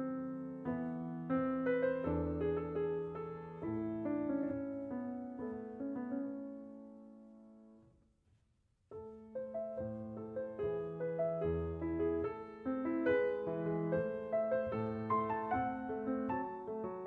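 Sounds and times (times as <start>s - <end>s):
piano music: 0.0s - 7.9s, 8.9s - 17.0s.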